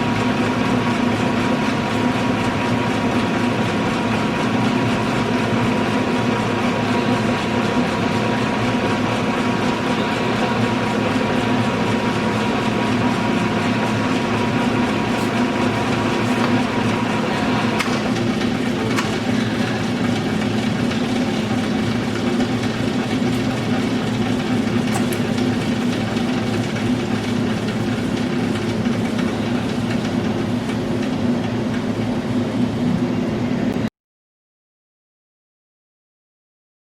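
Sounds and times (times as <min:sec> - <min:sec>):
high-pitched machine whine: 0:00.0 - 0:30.7
lathe humming: 0:00.0 - 0:33.2.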